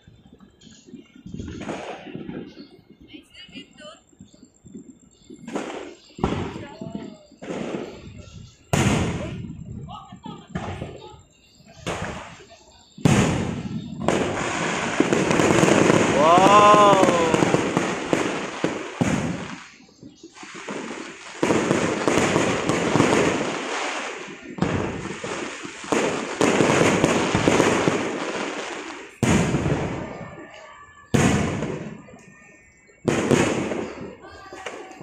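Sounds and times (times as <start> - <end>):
firework crackling: 0.0 - 35.0
firework shells bursting: 0.0 - 35.0.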